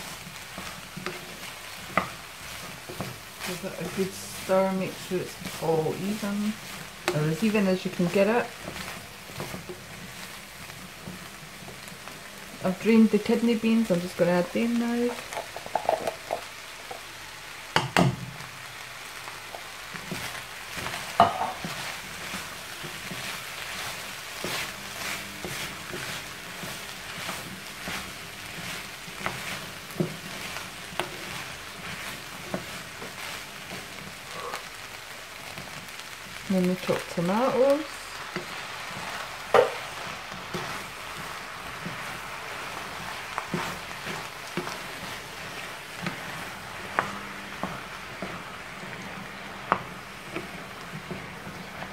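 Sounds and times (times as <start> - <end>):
spatula scraping a pan: 0.0 - 11.9, 19.9 - 34.7, 36.8 - 51.9
food sizzling in a frying pan: 0.0 - 51.9.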